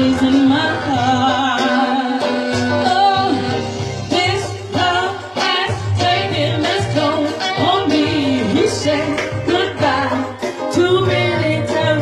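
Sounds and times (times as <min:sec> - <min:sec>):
band accompaniment with bass: 0:00.0 - 0:12.0
woman singing soul vocal: 0:00.0 - 0:12.0.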